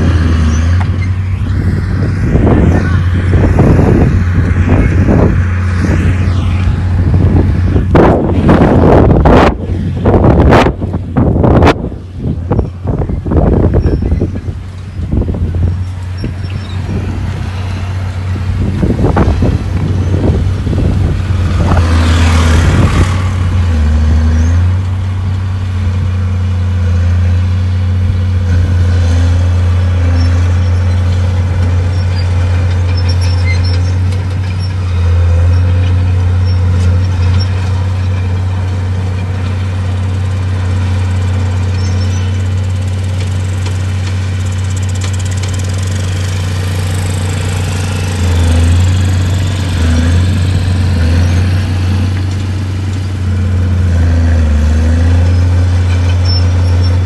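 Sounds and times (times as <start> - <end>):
heavy machine diesel engine running: 0.0 - 57.0.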